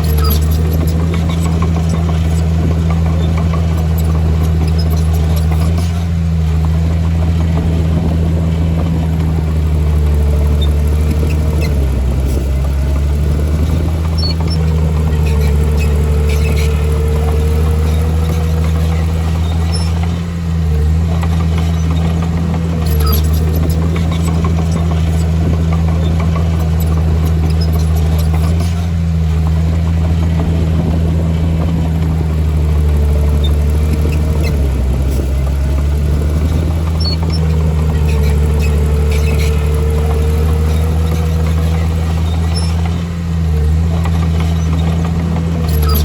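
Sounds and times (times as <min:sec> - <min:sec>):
heavy diesel engine running: 0:00.0 - 0:46.0
small clicks and knocks: 0:08.8 - 0:46.0.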